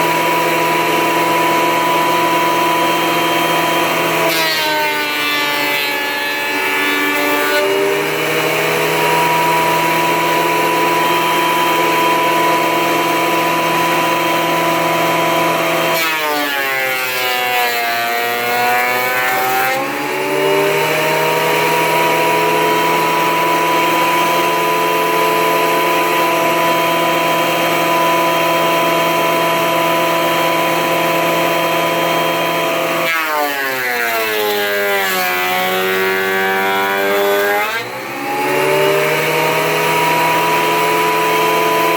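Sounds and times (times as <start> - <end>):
planer motor whine: 0.0 - 41.9.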